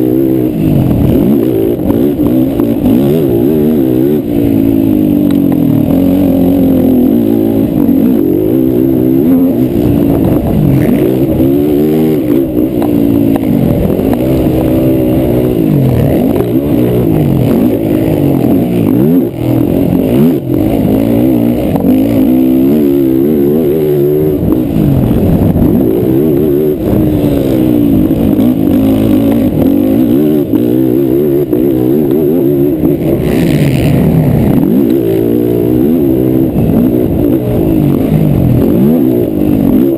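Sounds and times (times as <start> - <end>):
quad engine revving hard: 0.0 - 39.9.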